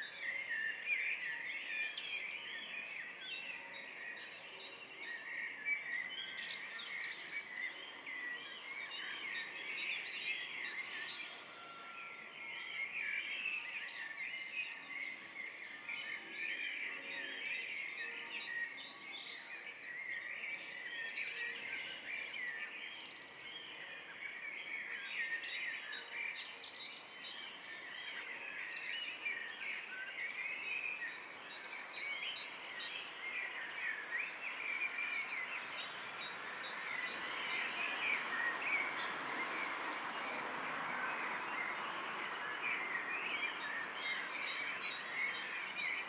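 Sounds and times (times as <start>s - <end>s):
songbirds singing and chirping: 0.0s - 46.0s.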